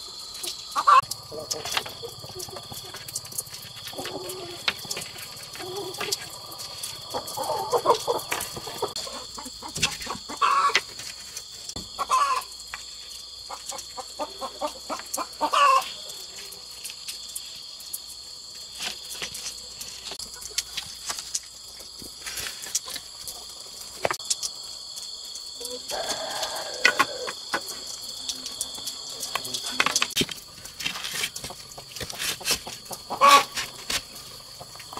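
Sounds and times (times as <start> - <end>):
chickens clucking: 0.0 - 16.6, 20.0 - 21.3, 22.7 - 34.9.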